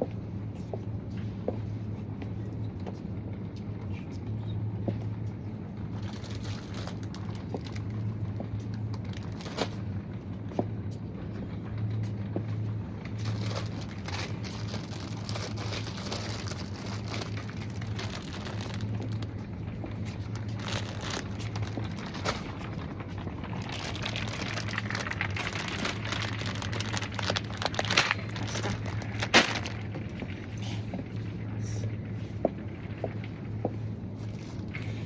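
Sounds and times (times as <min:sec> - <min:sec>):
refrigeration hum: 0:00.0 - 0:35.0
rustling and crinkling: 0:00.0 - 0:35.0.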